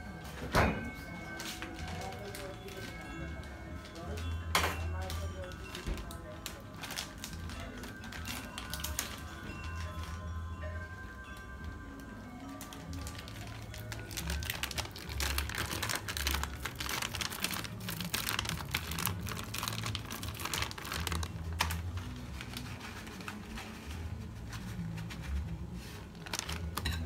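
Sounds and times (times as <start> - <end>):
plastic packaging crinkling: 0.8 - 10.3, 12.4 - 27.0.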